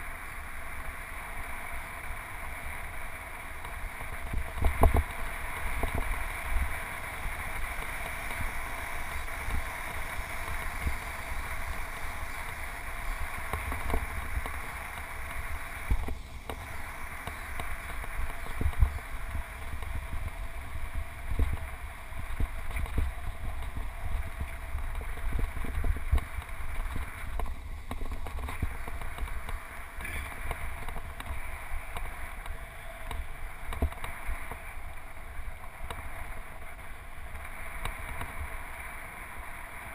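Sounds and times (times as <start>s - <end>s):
tyres hissing on asphalt: 0.0s - 39.9s
wind on microphone: 2.4s - 39.9s.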